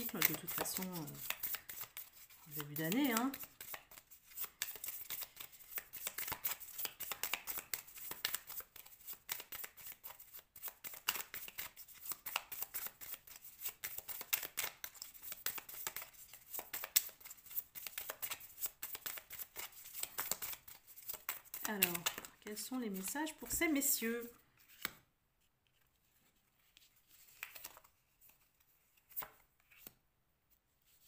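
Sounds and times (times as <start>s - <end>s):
cards shuffled by hand: 0.0s - 30.0s.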